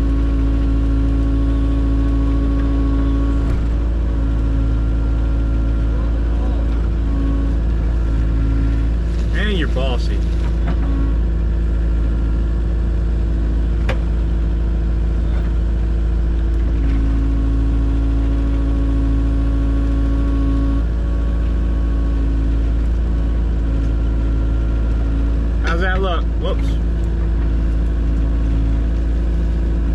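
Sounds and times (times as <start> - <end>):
large engine running: 0.0 - 29.9.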